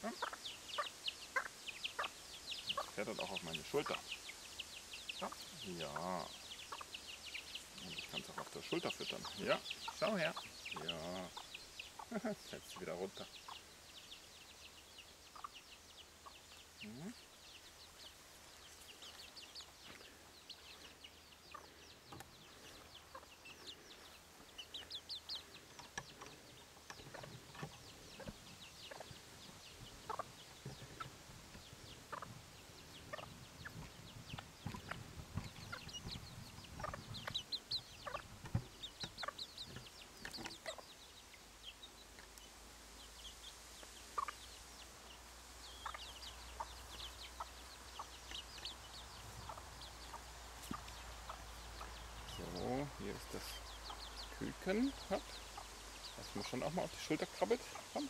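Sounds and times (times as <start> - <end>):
chickens clucking softly: 0.0 - 42.5, 43.2 - 58.0
chicks peeping and chirping: 0.0 - 58.0.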